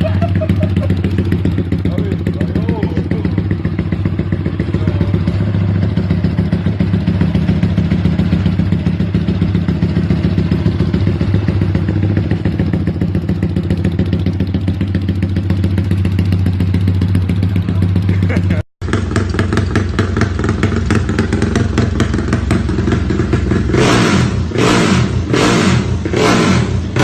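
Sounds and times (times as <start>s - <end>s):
motorcycle engine running steadily: 0.0s - 27.0s.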